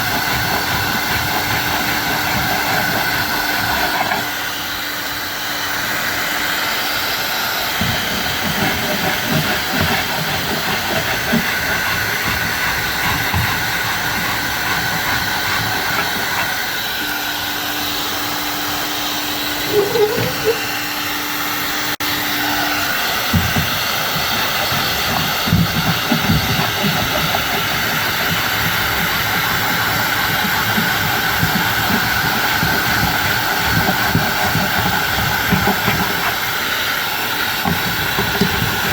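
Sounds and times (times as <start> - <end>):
power tool hissing rush: 0.0 - 38.9.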